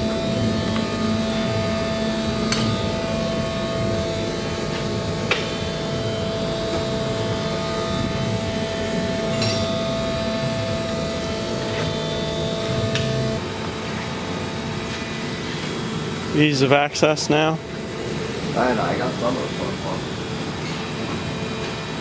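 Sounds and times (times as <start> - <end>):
mechanical drone with whine: 0.0 - 22.0.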